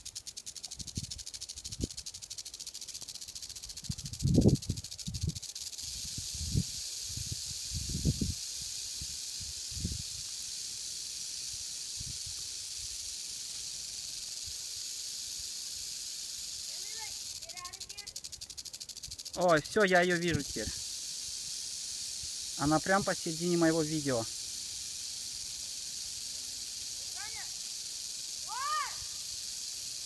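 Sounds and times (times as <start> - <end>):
rattlesnake rattling: 0.0 - 30.0.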